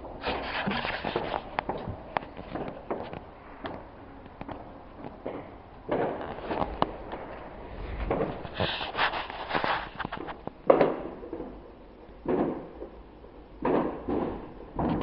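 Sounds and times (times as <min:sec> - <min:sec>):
fireworks crackling and bangs: 0:00.0 - 0:15.0.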